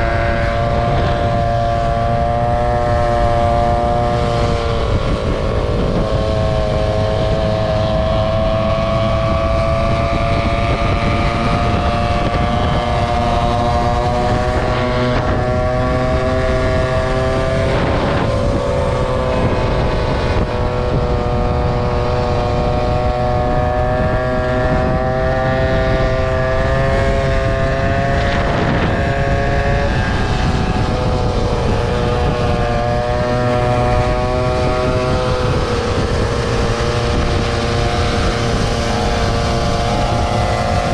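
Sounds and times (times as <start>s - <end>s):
motor scooter engine running: 0.0s - 40.9s
wind rumble on microphone: 0.0s - 40.9s.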